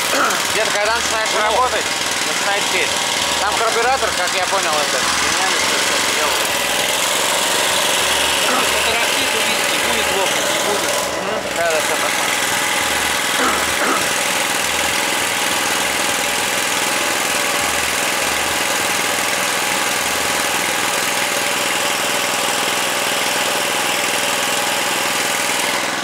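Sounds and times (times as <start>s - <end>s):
small petrol engine idling: 0.0s - 26.0s.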